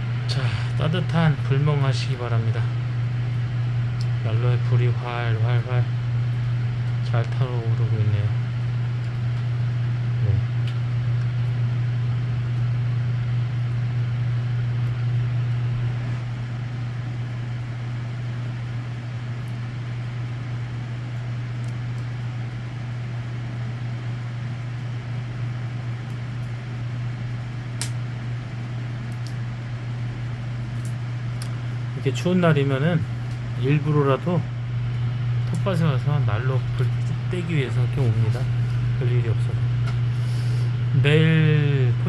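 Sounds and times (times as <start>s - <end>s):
fire crackling: 0.0s - 42.0s
wood stove fire drone: 0.0s - 42.0s.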